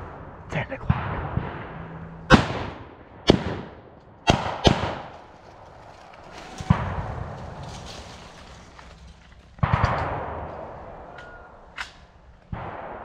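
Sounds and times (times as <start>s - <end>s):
rifle gunshots with echo: 0.0s - 7.6s, 9.6s - 13.0s.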